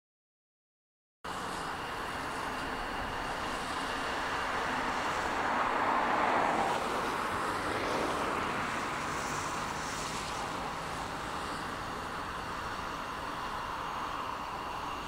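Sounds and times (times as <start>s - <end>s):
distant jet engines rushing: 1.3s - 15.0s.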